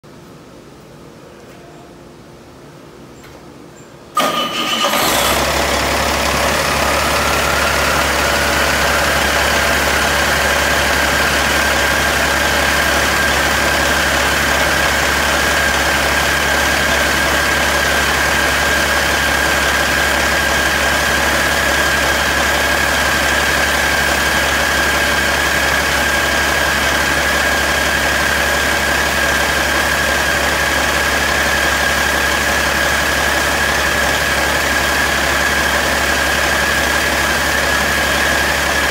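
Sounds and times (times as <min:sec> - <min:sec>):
diesel engine starting and idling: 0:04.1 - 0:38.9.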